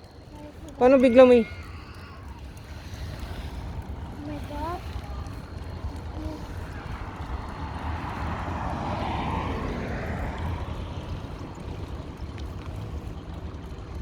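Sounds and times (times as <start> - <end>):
motor vehicle passing: 0.0 - 14.0
wind rumble on microphone: 0.0 - 14.0.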